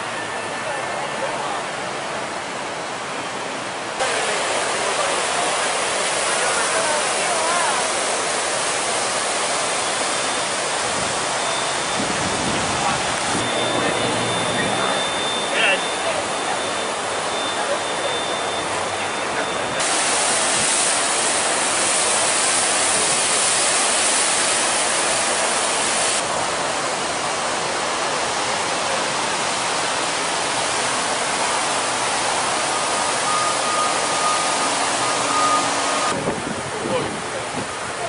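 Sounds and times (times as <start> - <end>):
falling water rushing: 0.0 - 38.0.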